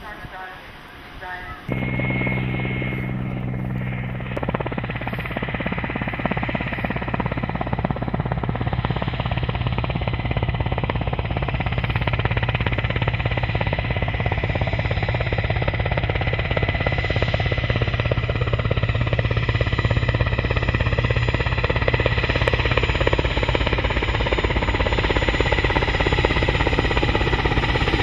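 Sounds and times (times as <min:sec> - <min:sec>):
helicopter rotor drone: 0:00.0 - 0:28.0.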